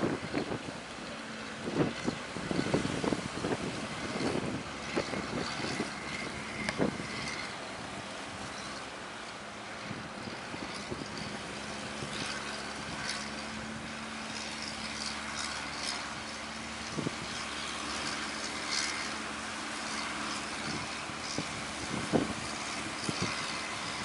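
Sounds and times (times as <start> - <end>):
wind noise: 0.0 - 9.0, 9.6 - 24.0
boat engine running: 0.0 - 24.0
waves splashing against boat: 0.0 - 24.0.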